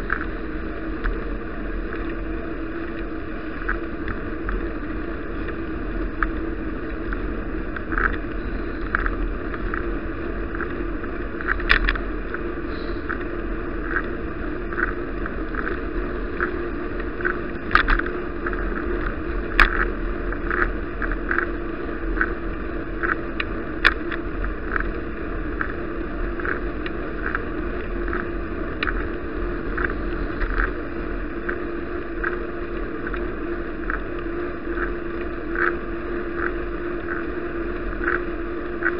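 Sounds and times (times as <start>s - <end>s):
constant hum: 0.0s - 38.9s
sharp ticks: 0.0s - 38.9s
wind and road noise: 0.0s - 38.9s.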